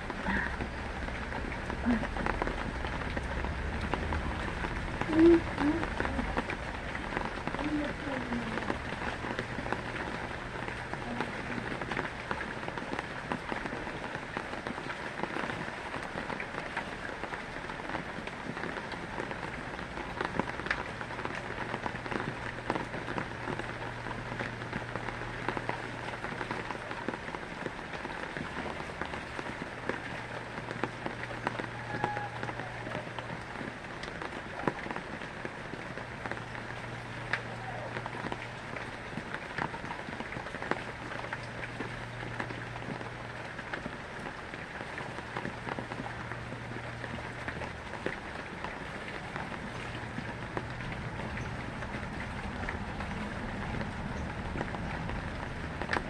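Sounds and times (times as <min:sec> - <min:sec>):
heavy rain falling: 0:00.0 - 0:56.0
raindrop clicks: 0:00.0 - 0:56.0.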